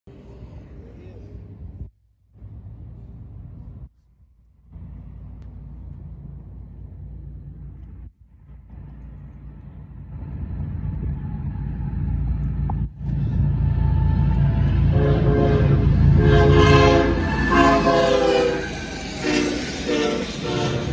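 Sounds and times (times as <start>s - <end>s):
diesel locomotives rumbling: 0.1s - 20.9s.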